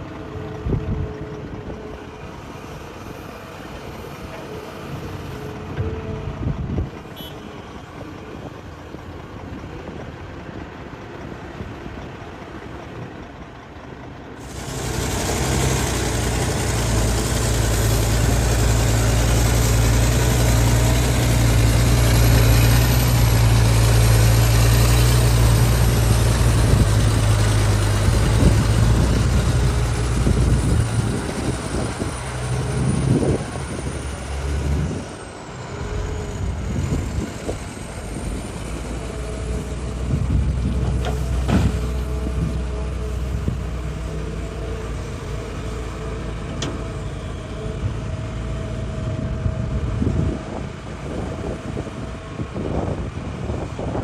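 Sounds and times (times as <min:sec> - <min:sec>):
excavator diesel engine revving: 0:00.0 - 0:54.0.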